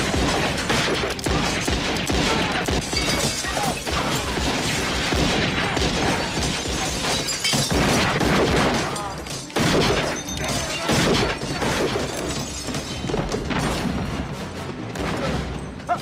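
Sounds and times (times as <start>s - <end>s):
window glass shattering: 0.2s - 14.0s.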